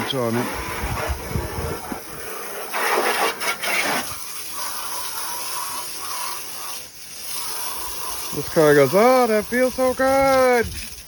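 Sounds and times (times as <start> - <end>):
water spraying onto car: 0.0 - 11.0.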